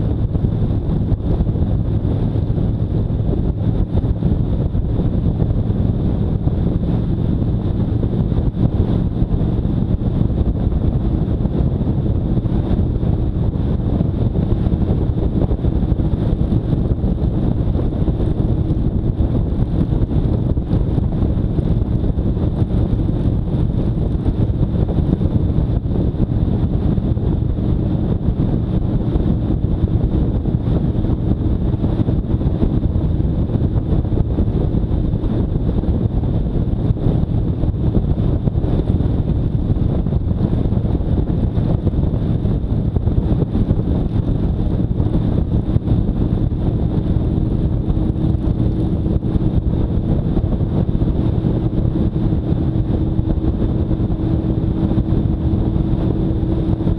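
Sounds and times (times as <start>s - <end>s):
motorcycle engine running: 0.0s - 56.9s
wind buffeting microphone: 0.0s - 56.9s.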